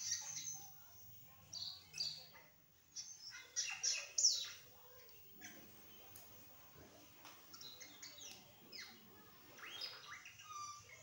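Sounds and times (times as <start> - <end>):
small bird chirping: 0.0 - 6.0, 7.4 - 11.0.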